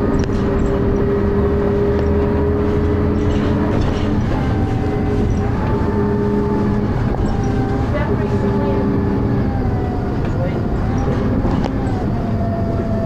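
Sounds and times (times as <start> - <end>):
bus diesel engine thrashing: 2.0 - 12.7.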